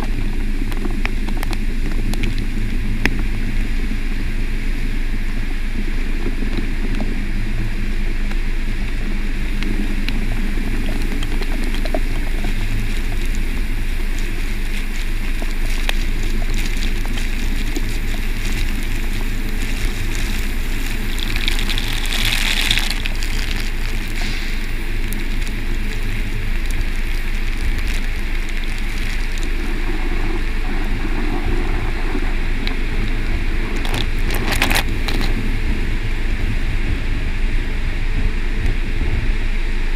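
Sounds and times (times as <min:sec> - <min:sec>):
car wash brushes and water spray: 0:00.0 - 0:39.9.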